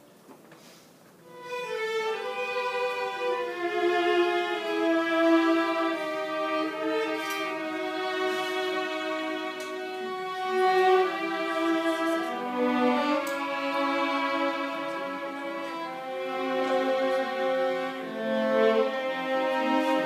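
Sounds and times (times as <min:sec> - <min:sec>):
violins and violas bowing held notes: 0:01.3 - 0:20.0.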